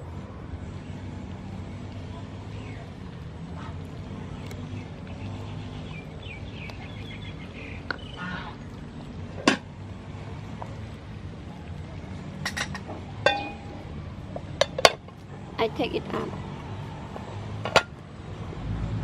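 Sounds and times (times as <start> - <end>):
birds chirping: 0.6 - 18.2.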